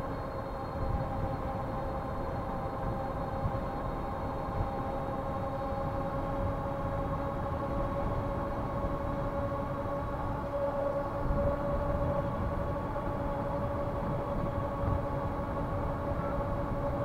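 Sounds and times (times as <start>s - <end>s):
wind on microphone: 2.6s - 17.0s.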